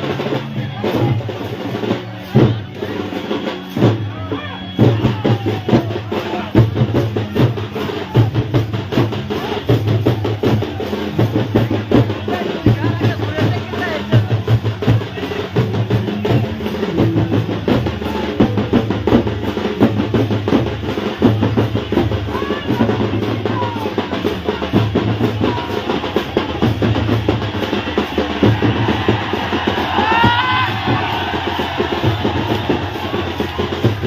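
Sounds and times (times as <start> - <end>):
music with fast drumming and bass: 0.0 - 34.0.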